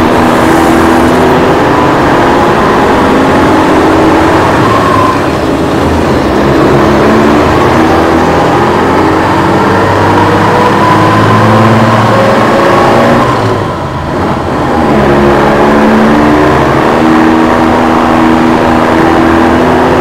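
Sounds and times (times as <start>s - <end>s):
loud motor drone: 0.0s - 20.0s.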